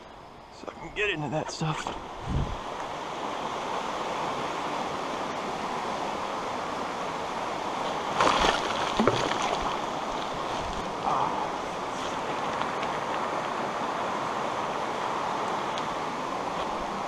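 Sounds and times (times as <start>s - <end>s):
river rushing over riffles: 0.0s - 17.0s.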